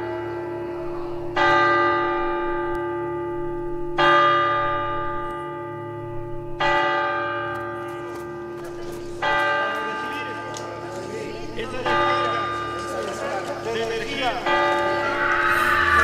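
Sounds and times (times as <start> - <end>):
church bell tolling: 0.0 - 16.0.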